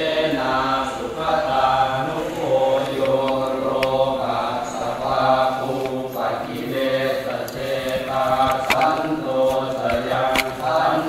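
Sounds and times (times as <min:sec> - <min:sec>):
voices chanting together: 0:00.0 - 0:11.0.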